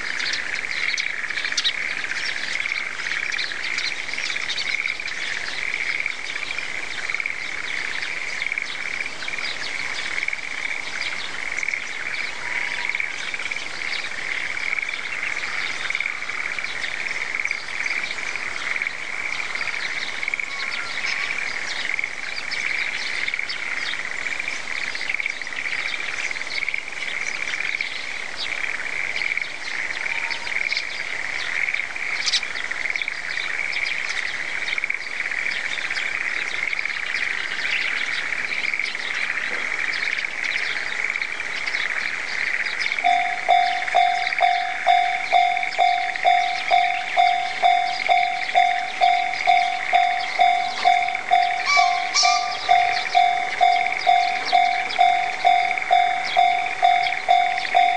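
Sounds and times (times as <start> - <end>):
frog chorus: 0.0 - 57.9.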